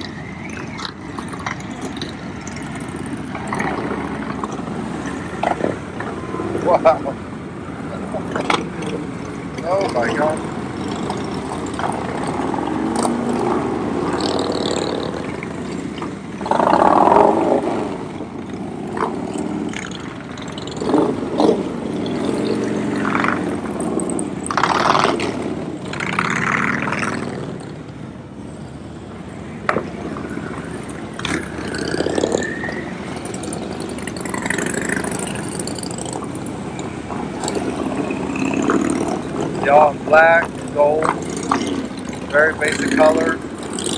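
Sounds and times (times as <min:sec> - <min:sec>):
motorcycle engines revving: 0:00.0 - 0:43.9.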